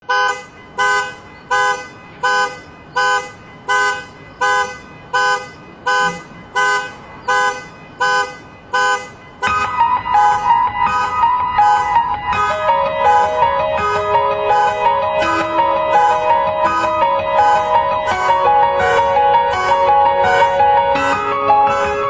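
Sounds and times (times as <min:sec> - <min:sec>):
car horn honking: 0:00.0 - 0:22.0
piano music: 0:00.6 - 0:22.0.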